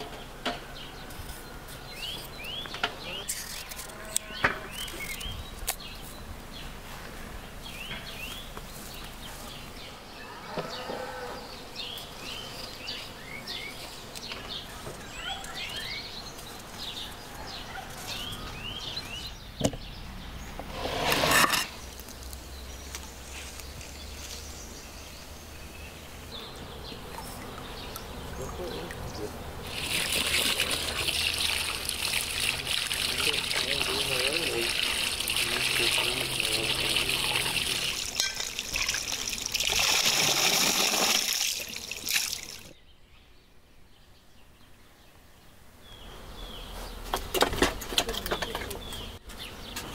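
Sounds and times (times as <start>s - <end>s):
small birds chirping: 0.0s - 20.8s, 21.6s - 40.1s, 41.2s - 49.9s.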